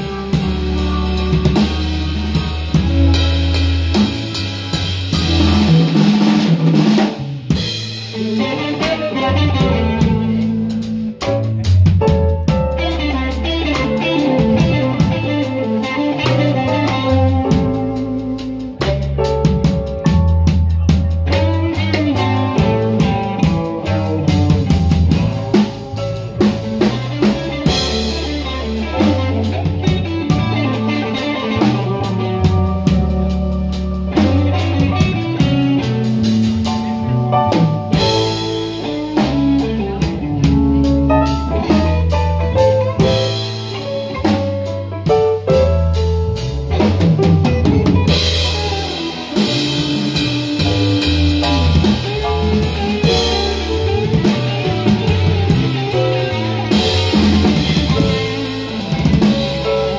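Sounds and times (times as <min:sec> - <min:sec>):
bass: 0:00.0 - 0:59.9
blues band playing: 0:00.0 - 0:59.9
drum kit: 0:00.0 - 0:59.9
electric guitar: 0:00.0 - 0:59.9.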